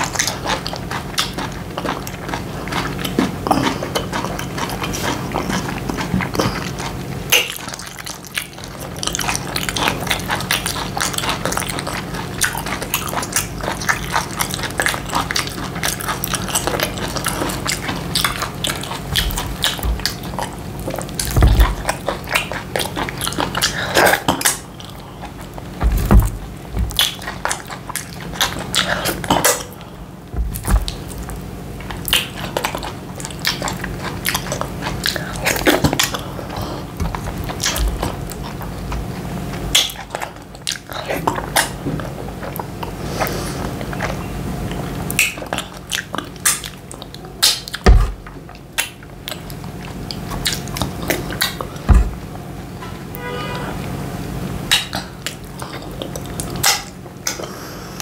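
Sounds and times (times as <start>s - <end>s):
wet chewing and mouth clicks: 0.0s - 52.8s, 54.6s - 57.6s
low steady hum: 0.0s - 58.0s.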